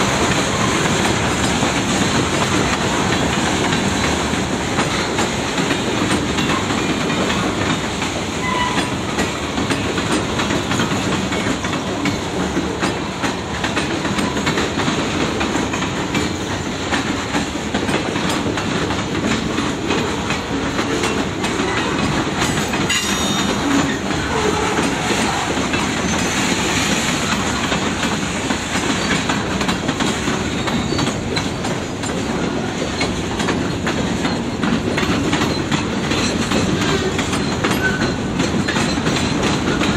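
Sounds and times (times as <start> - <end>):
freight train cars rolling: 0.0 - 39.9
wheels clicking over rail joints: 0.0 - 39.9.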